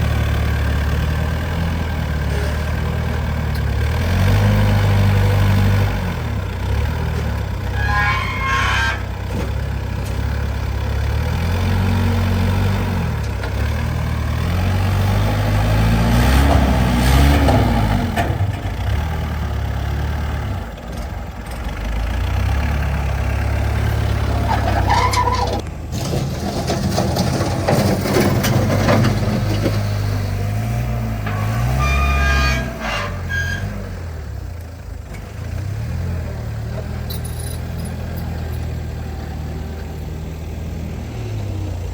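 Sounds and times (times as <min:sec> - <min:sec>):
truck engine revving: 0:00.0 - 0:20.8, 0:21.4 - 0:41.9.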